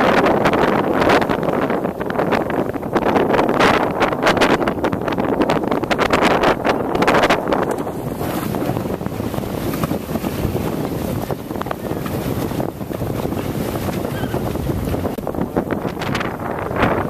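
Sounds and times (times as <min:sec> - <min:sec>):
choppy sea water washing: 0:00.0 - 0:17.0
wind buffeting microphone: 0:00.0 - 0:17.0.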